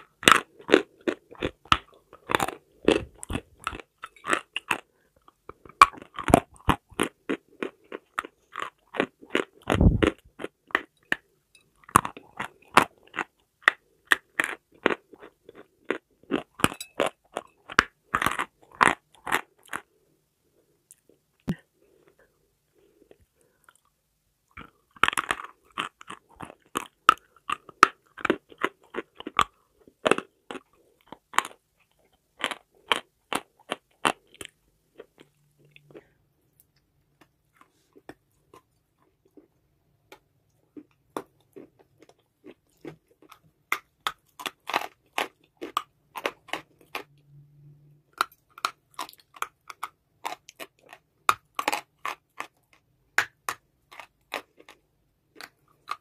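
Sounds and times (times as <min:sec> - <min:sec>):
crunching and chewing chalky block: 0:00.0 - 0:20.1, 0:20.8 - 0:47.1, 0:48.1 - 0:56.0.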